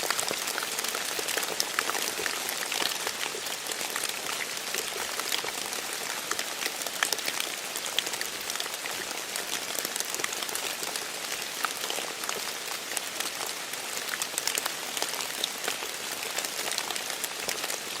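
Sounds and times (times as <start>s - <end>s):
light rain: 0.0s - 18.0s.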